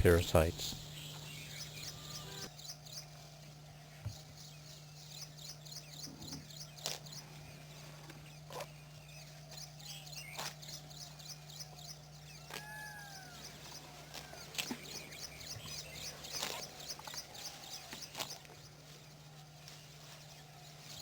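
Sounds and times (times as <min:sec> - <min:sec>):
steady low hum: 0:00.0 - 0:20.8
small birds chirping: 0:00.0 - 0:21.0.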